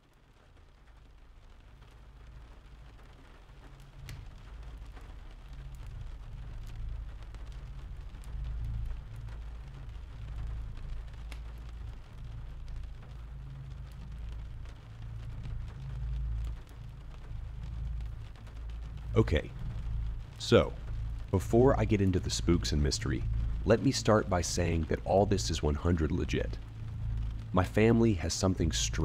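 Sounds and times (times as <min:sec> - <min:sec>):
rain hiss: 0:00.0 - 0:29.0
rolling thunder rumble: 0:04.3 - 0:29.0.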